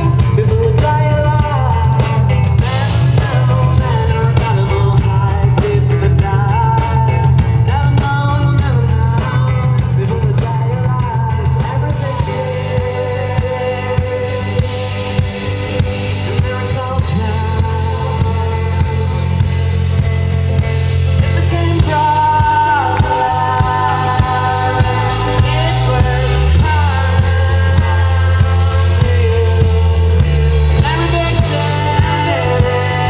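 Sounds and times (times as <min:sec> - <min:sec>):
person singing: 0:00.0 - 0:19.9, 0:21.3 - 0:33.0
live band music over pa: 0:00.0 - 0:33.0.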